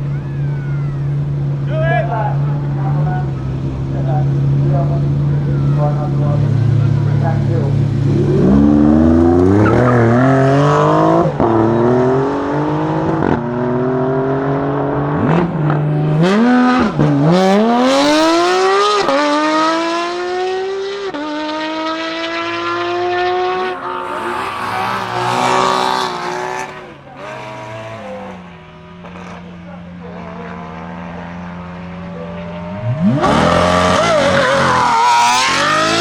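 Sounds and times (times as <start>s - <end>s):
car engine accelerating with upshifts: 2.3s - 36.0s.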